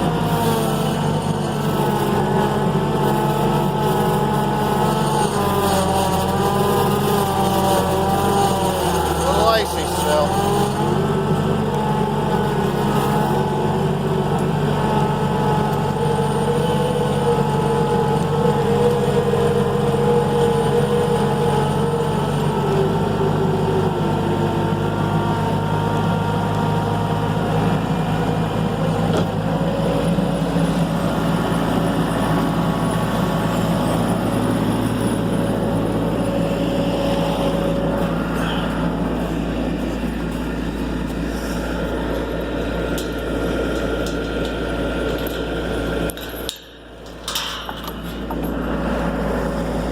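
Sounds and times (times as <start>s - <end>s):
skid steer engine running: 0.0s - 49.9s.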